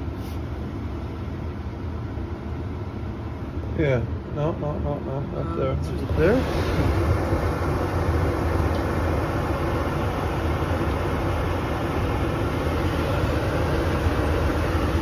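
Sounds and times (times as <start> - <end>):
furnace blower motor rumbling: 0.0 - 15.0.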